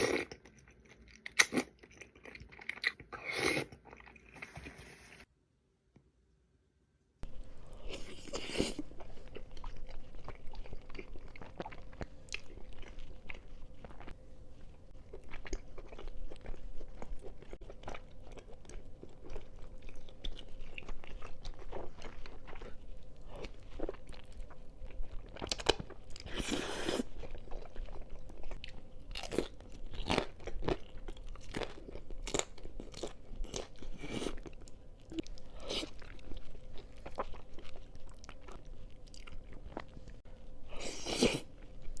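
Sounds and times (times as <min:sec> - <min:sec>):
person chewing crunchy food: 0:00.0 - 0:04.7, 0:07.6 - 0:42.0.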